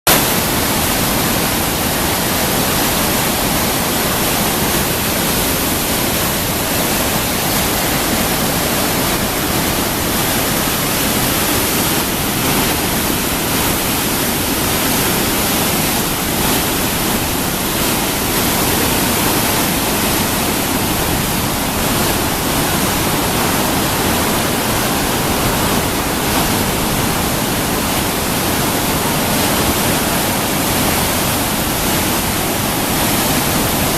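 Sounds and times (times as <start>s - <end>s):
creek rapids and waterfall rushing: 0.1s - 33.9s.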